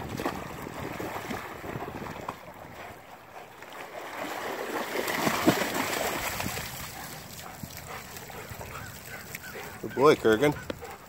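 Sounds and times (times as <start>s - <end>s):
dogs splashing through water: 0.0s - 11.0s.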